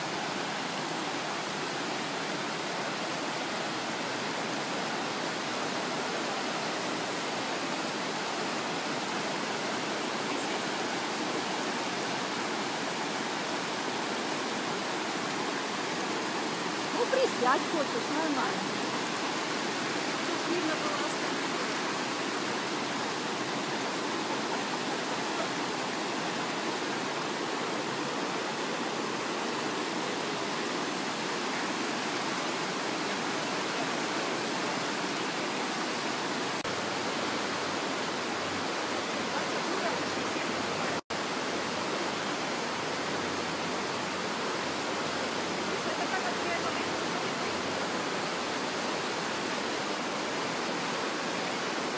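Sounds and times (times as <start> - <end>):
river rapids rushing over rocks: 0.0 - 51.9.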